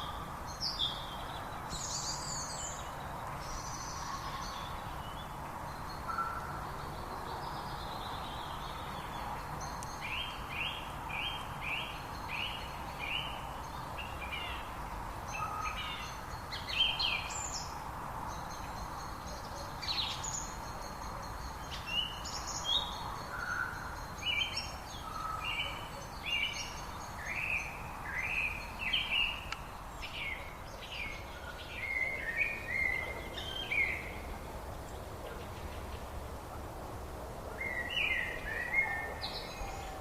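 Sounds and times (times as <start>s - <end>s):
songbirds chirping: 0.0s - 40.0s
steady background hiss: 0.0s - 40.0s.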